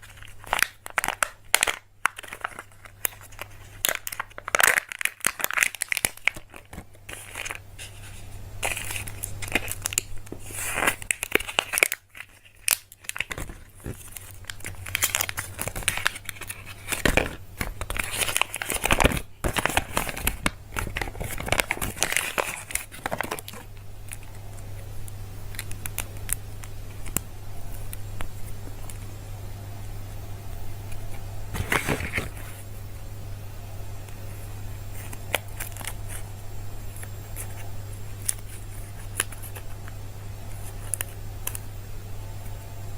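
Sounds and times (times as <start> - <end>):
foil and plastic wrappers crinkling: 0.0 - 29.1, 30.9 - 32.7, 34.2 - 36.3, 36.9 - 41.7.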